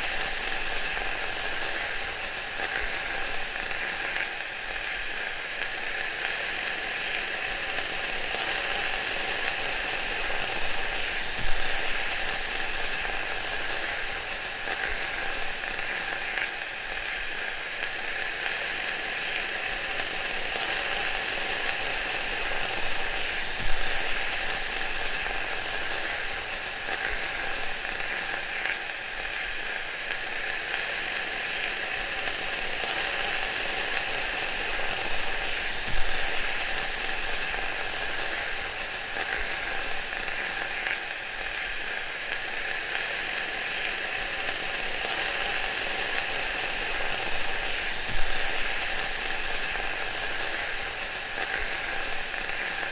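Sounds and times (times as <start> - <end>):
food sizzling: 0.0 - 52.9
frying pop: 0.0 - 52.9.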